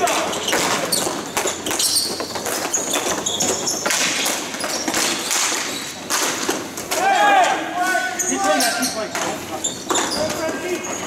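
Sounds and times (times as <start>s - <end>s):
hockey sticks and ball clacking: 0.0s - 11.0s.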